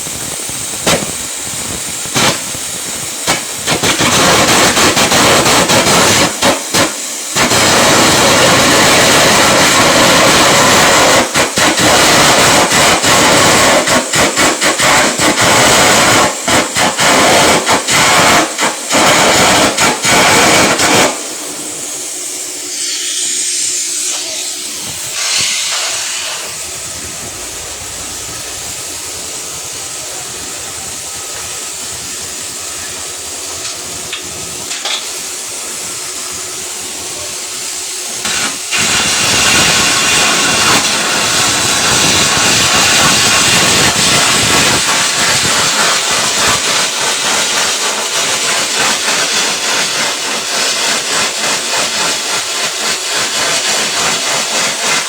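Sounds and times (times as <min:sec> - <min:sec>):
welding arc sizzling: 0:00.0 - 0:55.0.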